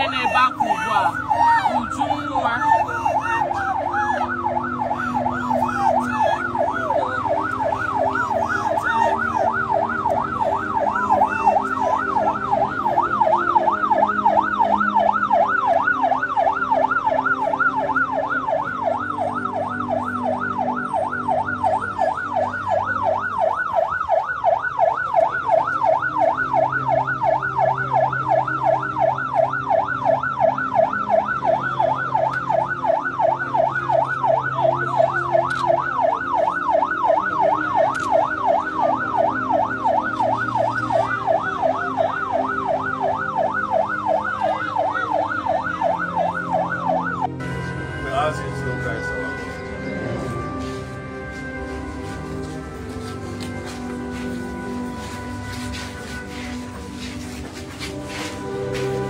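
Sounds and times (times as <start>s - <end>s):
siren yelping: 0.0s - 59.0s.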